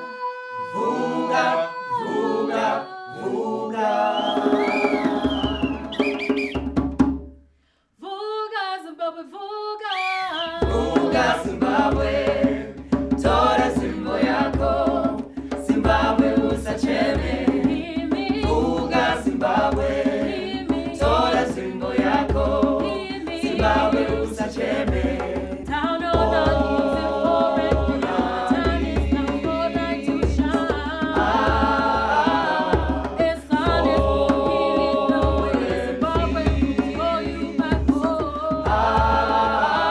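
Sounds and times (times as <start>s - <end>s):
choir singing: 0.0s - 6.5s, 10.6s - 39.9s
single voice singing: 0.0s - 6.6s, 8.0s - 39.9s
steady drum beat: 4.4s - 7.2s, 10.6s - 39.9s.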